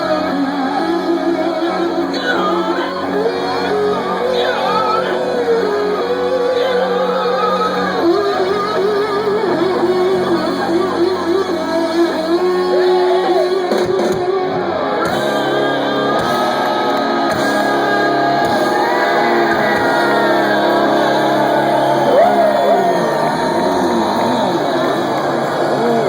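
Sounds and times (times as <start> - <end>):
person shouting singing: 0.0 - 13.7, 15.0 - 26.0
live rock band: 0.0 - 26.0.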